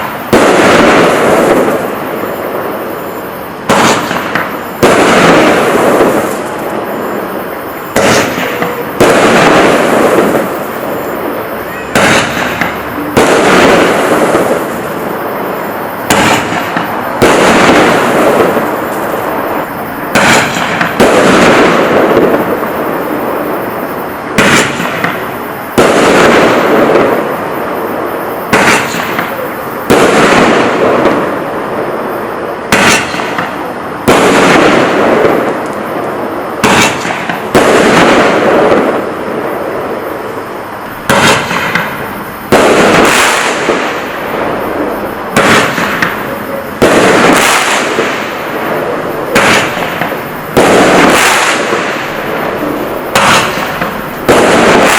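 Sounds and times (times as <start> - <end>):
firework aerial burst: 0.0 - 54.9
firework launch crack: 0.0 - 54.9.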